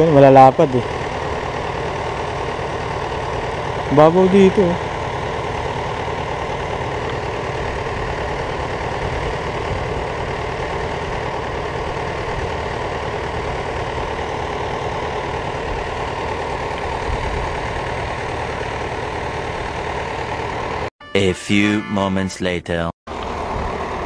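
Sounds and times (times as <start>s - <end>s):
engine idling: 0.0s - 20.9s, 23.1s - 24.0s.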